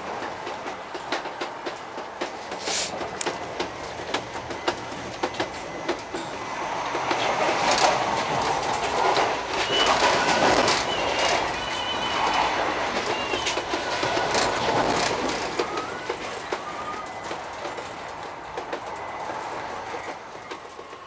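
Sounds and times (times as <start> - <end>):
train rattling on rails: 0.0 - 21.0.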